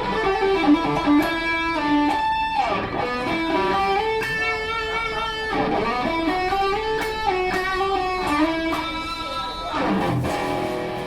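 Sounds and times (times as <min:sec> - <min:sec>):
electric guitar lead line: 0:00.0 - 0:11.0.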